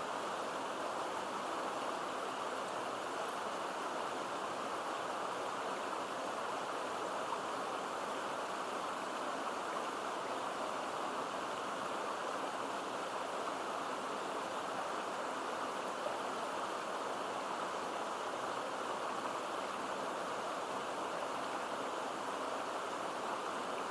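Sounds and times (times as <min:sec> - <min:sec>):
stream water babbling: 0:00.0 - 0:23.9.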